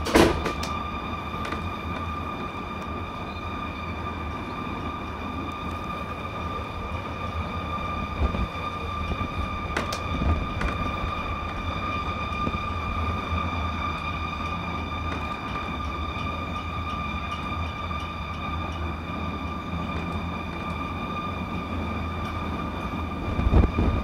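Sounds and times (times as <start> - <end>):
eerie droning tone in the sky: 0.0 - 24.0.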